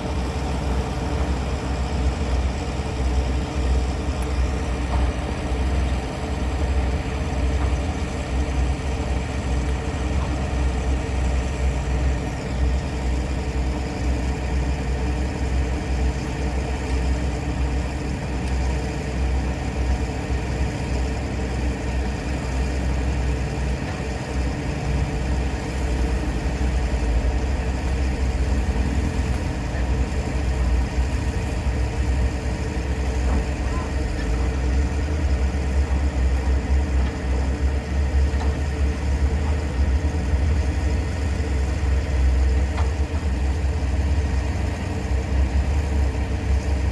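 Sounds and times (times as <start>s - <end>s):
low engine rumble: 0.0s - 46.9s.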